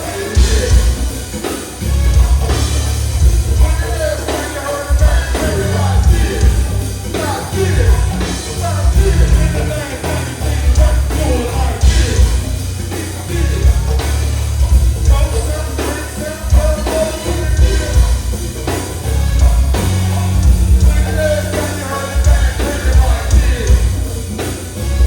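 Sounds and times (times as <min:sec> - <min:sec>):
heavy bass line: 0:00.0 - 0:25.0
loud music with singing: 0:00.0 - 0:25.0.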